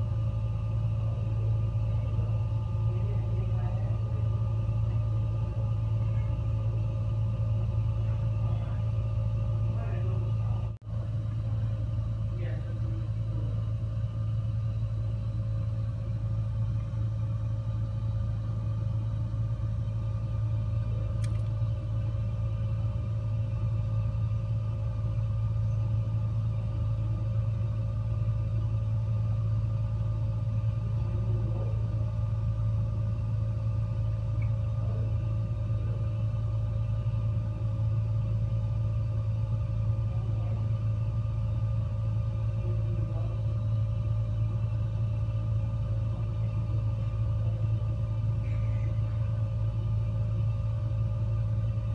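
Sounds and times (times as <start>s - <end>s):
gas fireplace burner and fan hum: 0.0s - 51.9s.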